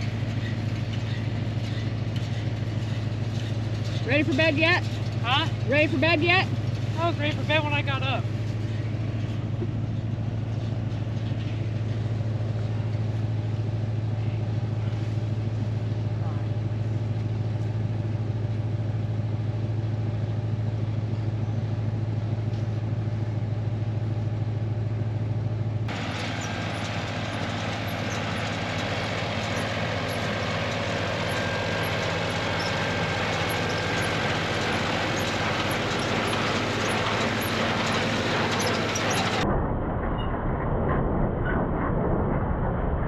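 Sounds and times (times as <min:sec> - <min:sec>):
pickup truck engine running: 0:00.0 - 0:39.4.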